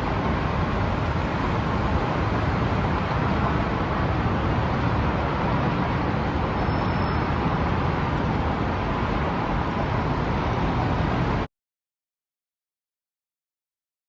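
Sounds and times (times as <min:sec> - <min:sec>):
rushing air: 0:00.0 - 0:11.5.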